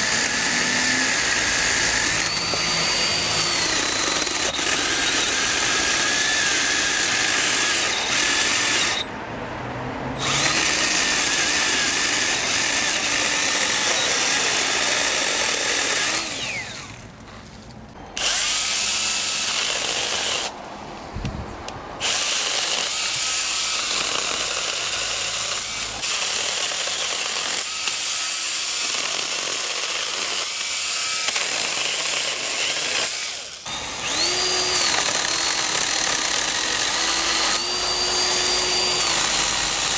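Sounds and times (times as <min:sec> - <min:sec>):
cordless chainsaws whining: 0:00.0 - 0:09.1, 0:10.2 - 0:17.0, 0:22.0 - 0:39.9.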